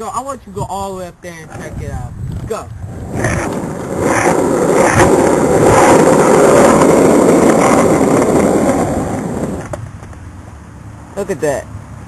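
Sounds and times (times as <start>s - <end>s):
hard wheels rolling on asphalt: 0.0s - 11.6s.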